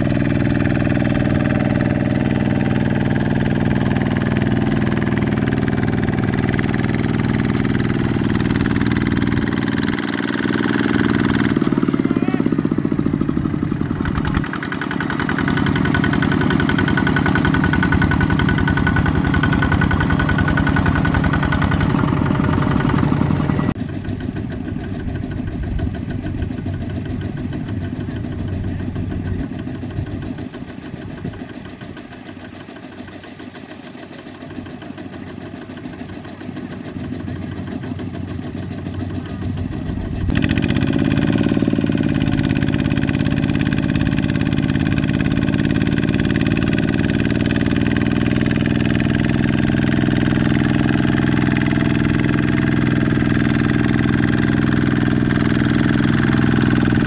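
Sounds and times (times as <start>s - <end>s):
single-cylinder diesel engine running: 0.0s - 57.0s.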